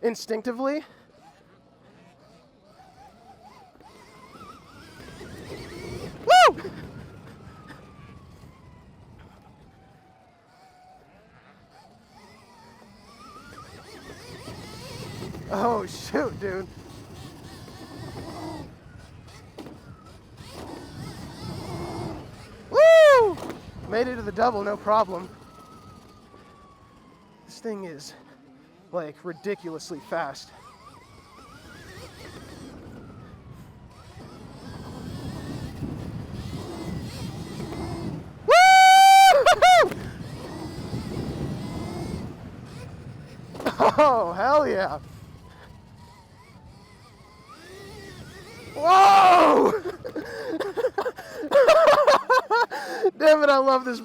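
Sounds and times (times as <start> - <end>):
electric motorbike motor whining: 0.0 - 54.0
rumble of tyres on track: 0.8 - 51.6.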